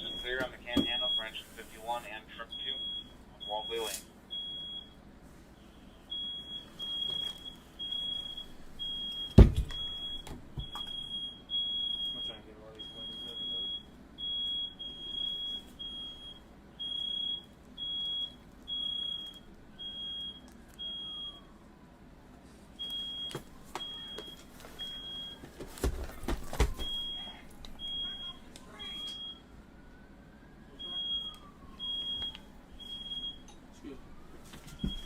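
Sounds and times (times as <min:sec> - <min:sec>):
smoke alarm beeping: 0:00.0 - 0:05.0, 0:05.6 - 0:21.5, 0:22.8 - 0:29.5, 0:30.7 - 0:35.0.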